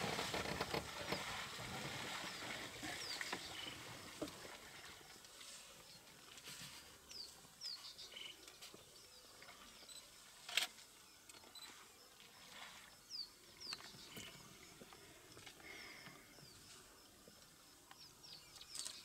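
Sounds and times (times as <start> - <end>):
birds chirping: 0.4 - 4.3, 7.0 - 19.0.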